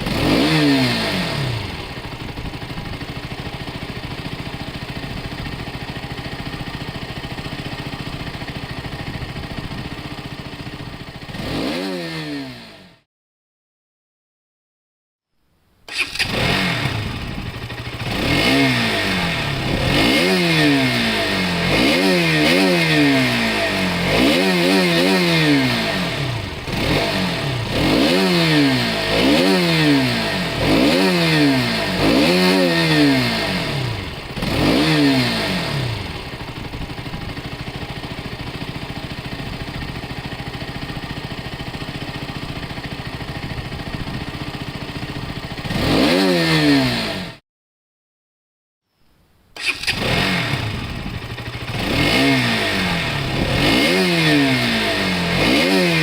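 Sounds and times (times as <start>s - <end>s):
motorcycle engine idling: 0.0s - 11.6s, 15.9s - 45.8s, 49.6s - 56.0s
motorcycle engine revving: 0.0s - 13.1s, 15.9s - 47.4s, 49.6s - 56.0s.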